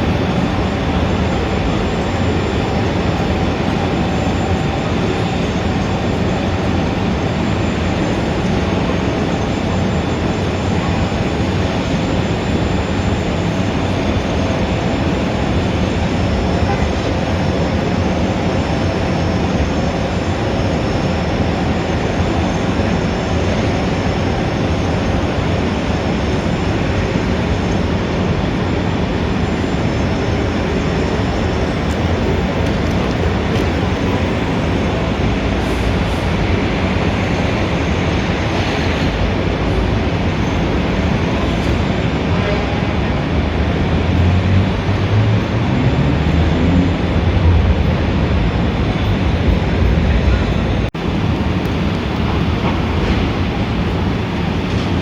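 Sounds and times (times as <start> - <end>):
city street traffic din: 0.0 - 55.0.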